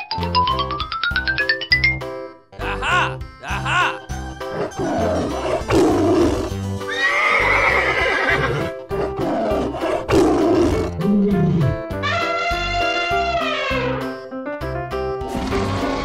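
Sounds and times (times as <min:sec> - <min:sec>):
cartoon music with steady beat: 0:00.0 - 0:16.0.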